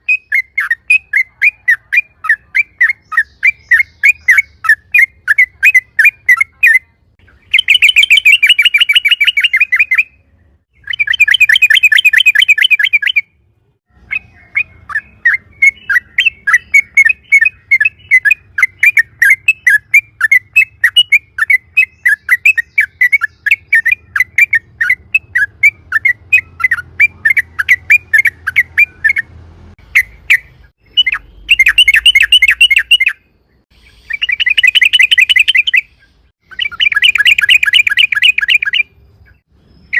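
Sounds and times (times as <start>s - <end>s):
bulbul singing trills and chirps: 0.0s - 39.9s.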